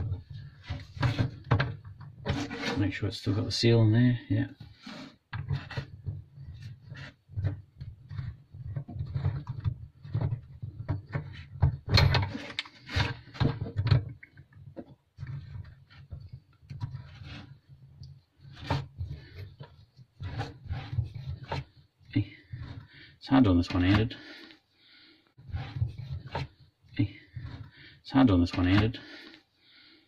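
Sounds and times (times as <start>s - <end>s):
hose fitting rubbing and scraping: 0.0s - 3.8s, 4.4s - 24.5s, 25.4s - 29.3s.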